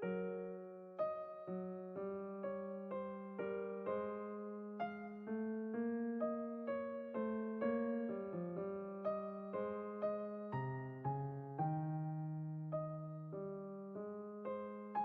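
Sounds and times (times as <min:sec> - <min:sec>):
slow electric piano melody: 0:00.0 - 0:15.0.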